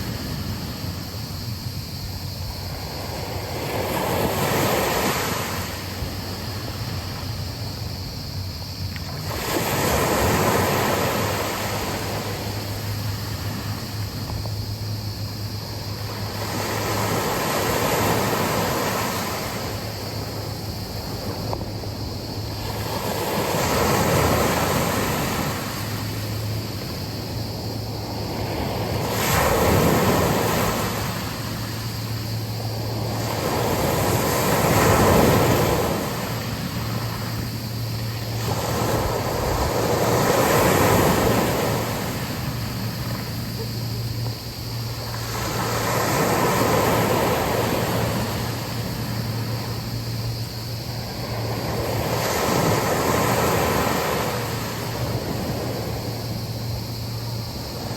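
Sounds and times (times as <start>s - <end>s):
sea waves breaking on shore: 0.0s - 57.9s.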